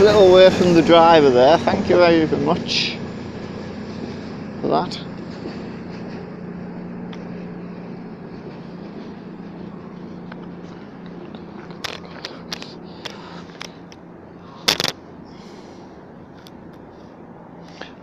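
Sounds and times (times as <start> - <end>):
train engine hum: 0.0 - 18.0.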